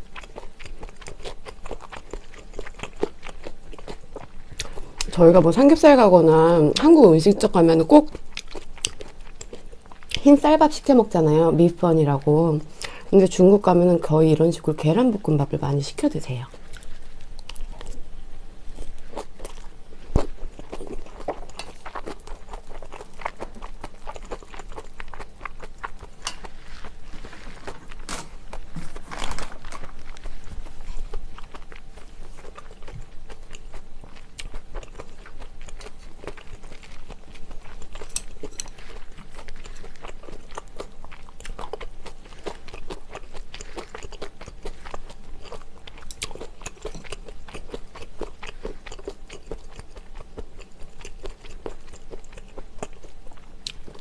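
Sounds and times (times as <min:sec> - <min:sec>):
person chewing food: 0:00.0 - 0:05.2, 0:08.0 - 0:10.3, 0:16.4 - 0:54.0.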